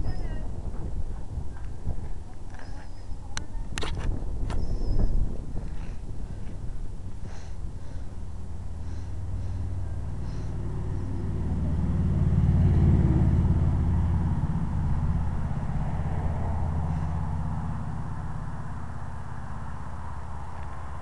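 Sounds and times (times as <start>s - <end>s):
passing vehicle rumble: 0.0s - 21.0s.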